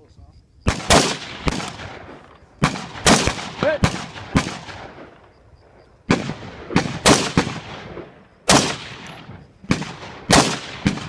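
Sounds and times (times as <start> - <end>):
rifle shots echoing: 0.6 - 11.0.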